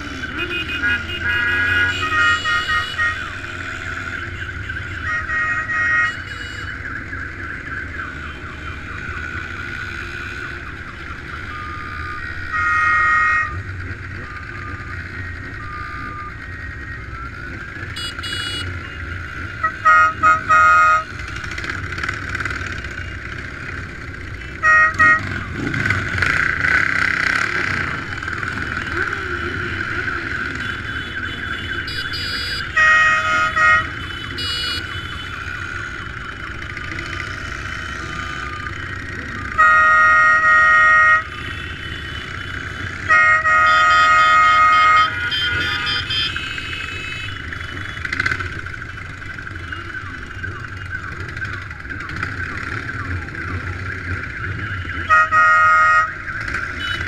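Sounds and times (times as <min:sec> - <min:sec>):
motorcycle horns honking: 0:00.0 - 0:07.2, 0:07.8 - 0:14.8, 0:17.8 - 0:21.9, 0:22.6 - 0:50.5, 0:54.4 - 0:57.0
motorcycle engines running: 0:00.0 - 0:57.0
road noise: 0:00.0 - 0:57.0.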